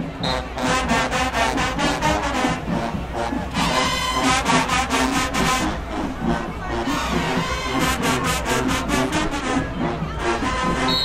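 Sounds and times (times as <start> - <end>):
marching band brass: 0.0 - 11.0.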